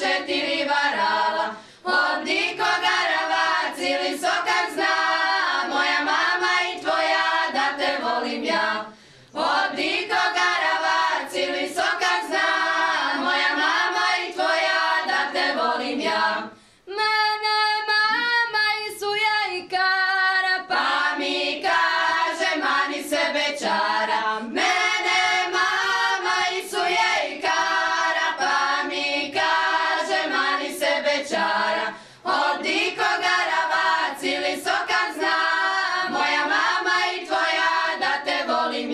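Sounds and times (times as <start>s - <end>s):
women singing unaccompanied: 0.0s - 38.9s.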